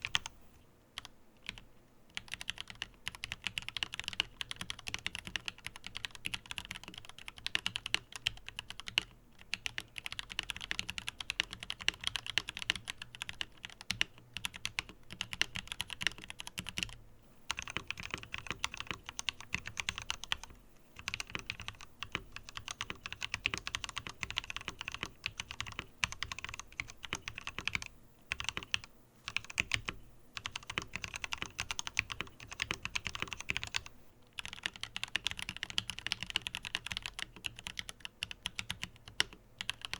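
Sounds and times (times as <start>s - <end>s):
fast mechanical keyboard typing: 0.0s - 0.4s, 1.0s - 39.9s.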